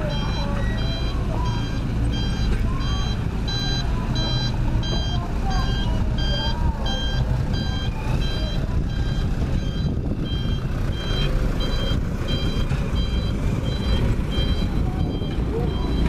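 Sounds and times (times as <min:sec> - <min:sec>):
diesel engine rumble: 0:00.0 - 0:16.0
reversing alarm beeping: 0:00.0 - 0:16.0.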